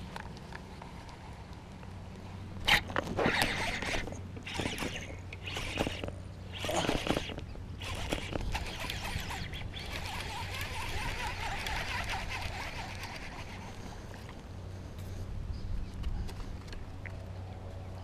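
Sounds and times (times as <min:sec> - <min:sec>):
rustling of fishing gear: 0:00.0 - 0:17.4.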